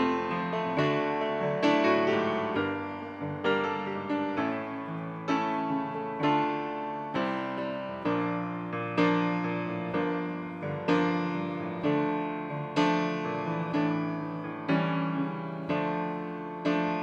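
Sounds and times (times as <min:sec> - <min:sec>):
grand piano playing hymn chords: 0:00.0 - 0:17.0.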